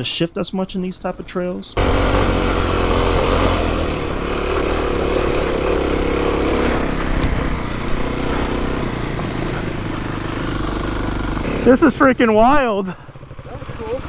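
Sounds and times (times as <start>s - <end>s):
motorcycle engine labouring uphill: 1.8s - 14.0s.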